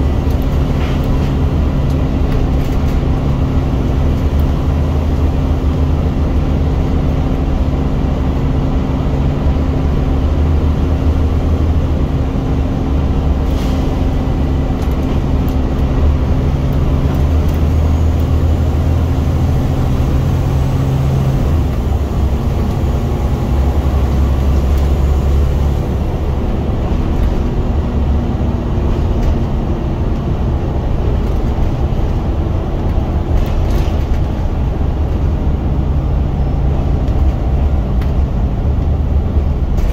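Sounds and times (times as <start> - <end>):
bus diesel engine labouring: 0.0 - 39.9
road noise: 0.0 - 39.9.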